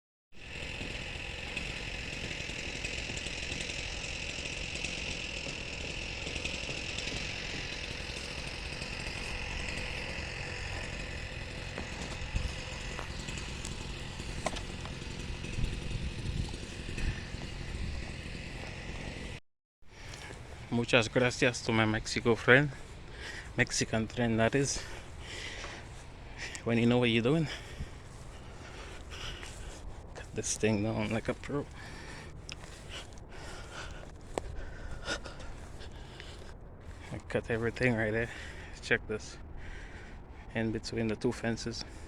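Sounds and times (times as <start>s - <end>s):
chainsaw engine running: 0.4s - 42.0s.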